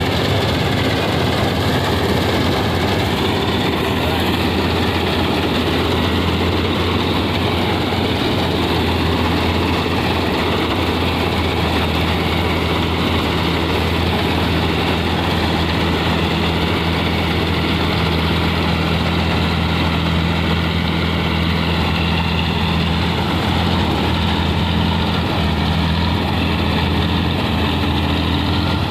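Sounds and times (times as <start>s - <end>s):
combine harvester engine drone: 0.0s - 28.9s.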